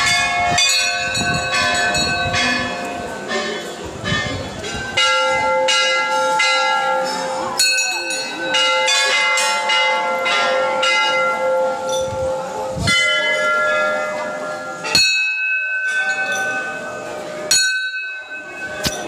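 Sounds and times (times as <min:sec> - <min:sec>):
temple bells ringing: 0:00.0 - 0:19.0.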